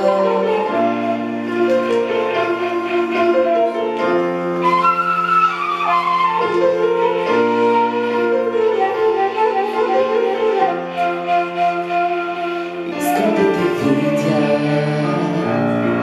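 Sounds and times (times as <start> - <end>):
flute melody: 0.0 - 16.0
piano chords: 0.0 - 16.0.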